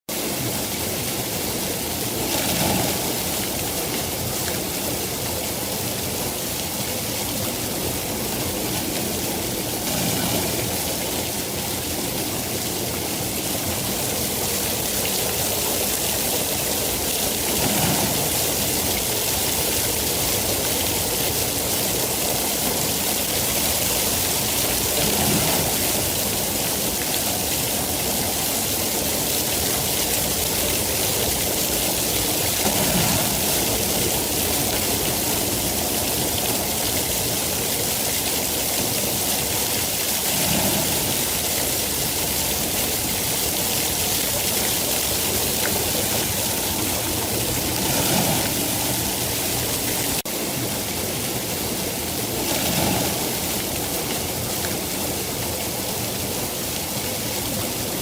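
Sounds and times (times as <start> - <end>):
heavy rain hissing: 0.1 - 58.0.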